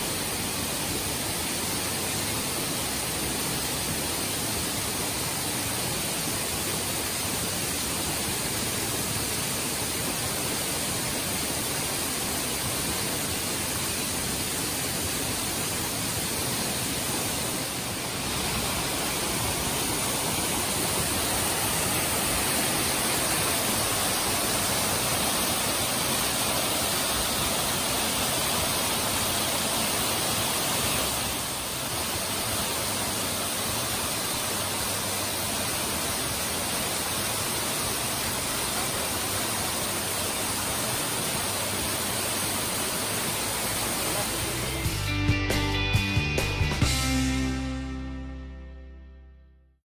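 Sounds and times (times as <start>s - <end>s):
waterfall rushing: 0.0s - 45.1s.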